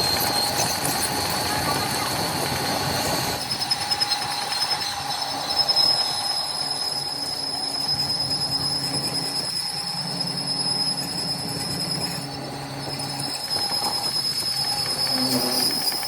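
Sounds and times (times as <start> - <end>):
factory machinery whine and hum: 0.0 - 16.0.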